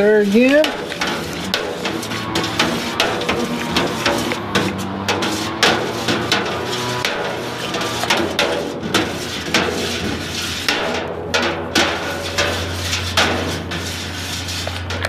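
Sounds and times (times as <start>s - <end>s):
metal spoon stirring liquid: 0.0s - 15.0s
spoon knocking metal pot: 0.2s - 13.6s.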